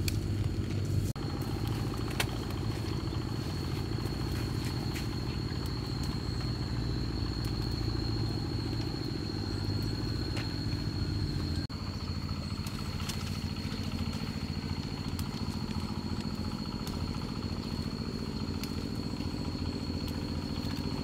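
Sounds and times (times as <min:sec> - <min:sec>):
high-pitched whine: 0:00.0 - 0:21.0
small motorcycle engine running: 0:00.0 - 0:21.0.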